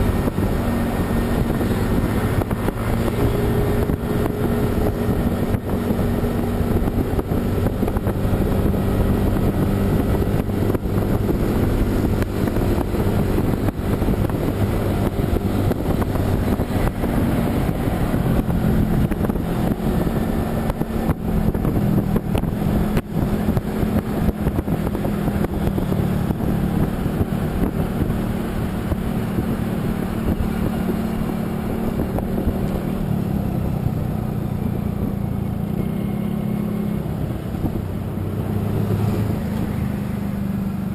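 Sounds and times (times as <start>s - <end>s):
rough gusty rushing noise: 0.0s - 35.2s
vehicle engine running: 0.0s - 40.9s.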